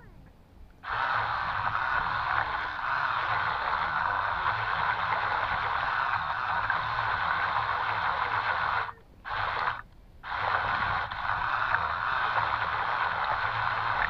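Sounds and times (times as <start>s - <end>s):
toy boat motors whirring: 0.8s - 14.0s.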